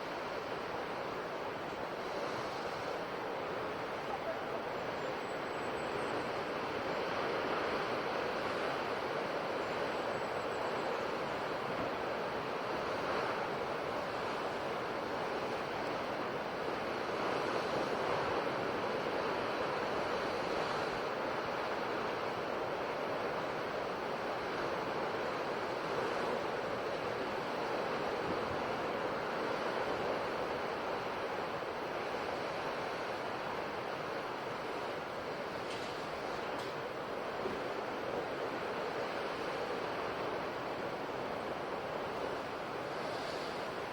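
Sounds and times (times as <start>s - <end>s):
sea waves washing onto shore: 6.2s - 43.9s.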